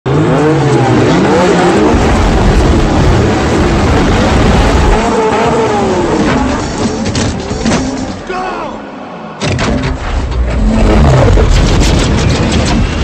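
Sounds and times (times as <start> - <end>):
car engines revving: 0.1 - 13.0.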